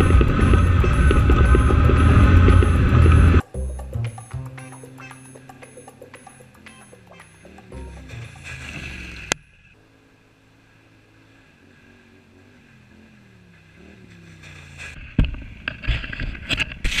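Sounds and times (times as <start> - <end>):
faint atv engine running: 0.0 - 17.0.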